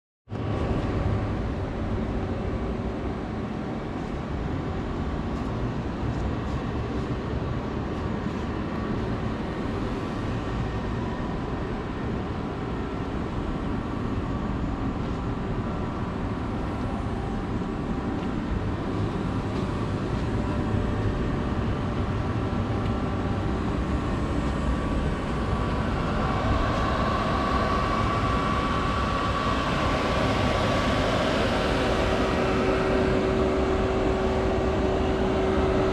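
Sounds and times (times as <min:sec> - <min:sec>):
steady hum: 0:00.3 - 0:35.9
cnc router mechanical rumble: 0:00.4 - 0:35.9
faint whining tones: 0:00.4 - 0:35.9
higher whine: 0:05.2 - 0:35.9.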